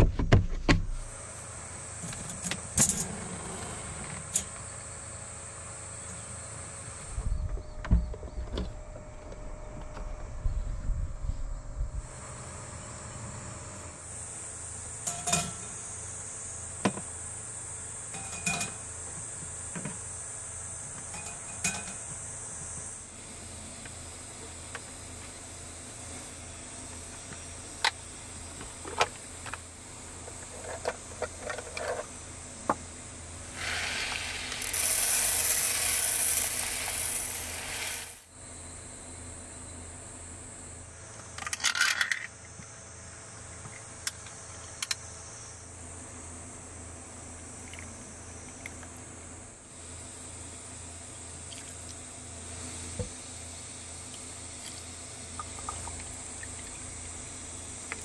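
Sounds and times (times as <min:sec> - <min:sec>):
high insect chorus: 0:11.6 - 0:58.0.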